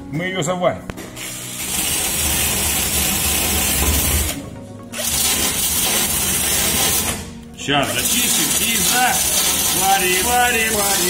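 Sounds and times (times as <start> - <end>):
cordless drill stripping paint: 1.2 - 11.0.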